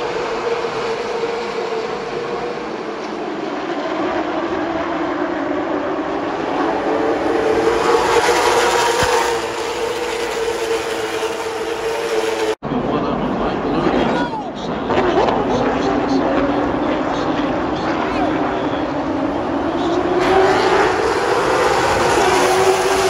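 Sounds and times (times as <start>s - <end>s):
racing car engines droning: 0.0s - 23.0s.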